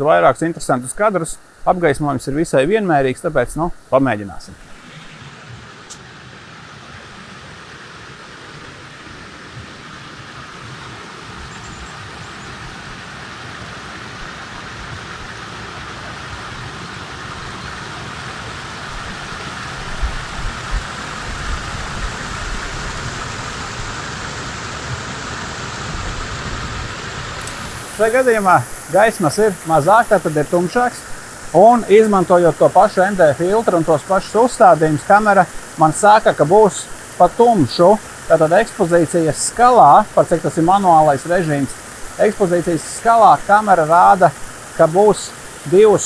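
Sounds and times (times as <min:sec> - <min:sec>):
waterfall rushing over rocks: 0:00.0 - 0:46.0.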